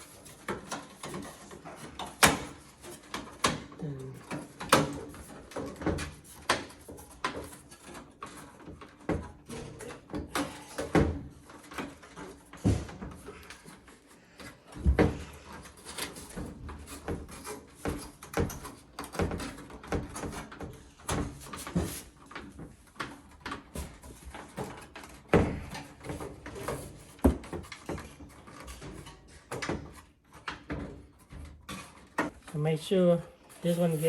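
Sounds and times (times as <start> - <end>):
metal parts clunking and knocking: 0.0 - 32.6.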